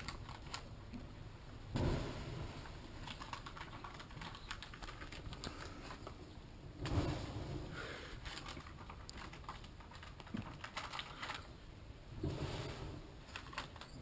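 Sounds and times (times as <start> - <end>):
wood fire crackling and popping: 1.7 - 14.0.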